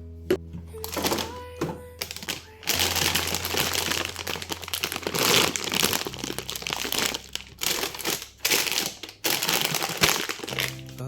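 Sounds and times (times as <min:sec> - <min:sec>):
plastic packaging crinkling: 0:00.8 - 0:11.0.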